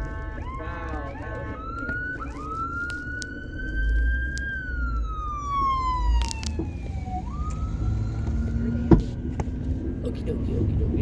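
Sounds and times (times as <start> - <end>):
car rumble: 0.0 - 11.0
emergency siren wailing: 0.0 - 11.0.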